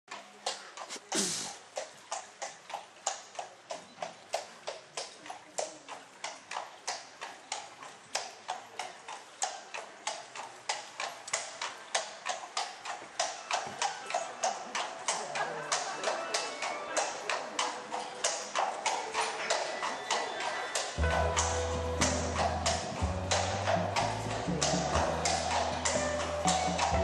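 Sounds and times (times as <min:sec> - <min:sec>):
horse hooves clip-clopping: 0:00.1 - 0:27.0.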